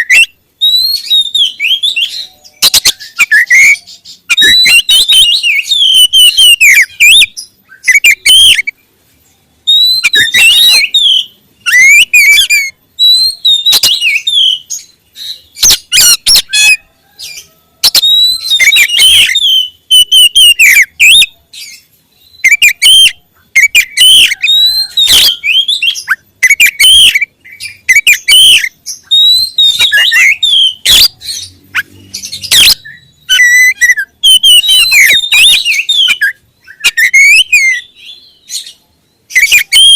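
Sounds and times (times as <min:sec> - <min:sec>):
bird singing whistled phrases: 0:00.0 - 0:08.8, 0:09.6 - 0:39.9.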